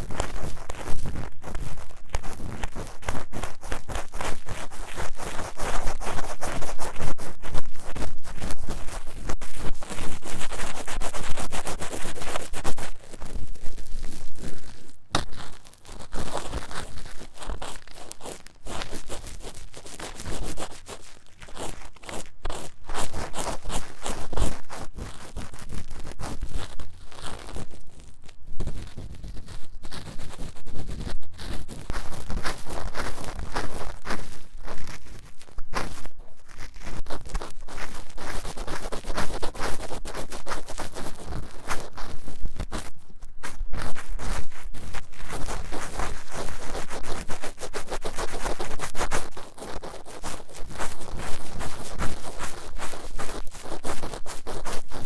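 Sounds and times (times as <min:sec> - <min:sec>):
scratching on microphone ear: 0:00.0 - 0:55.0.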